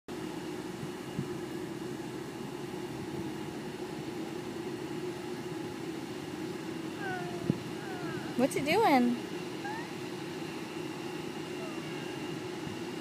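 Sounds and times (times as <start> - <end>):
distant jet engines droning: 0.1 - 13.0.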